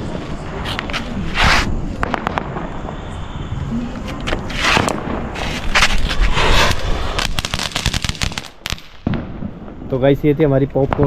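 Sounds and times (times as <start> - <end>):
firework pops and crackles: 0.0 - 3.2, 3.9 - 10.0, 10.6 - 11.0
firework hissing: 0.0 - 9.7.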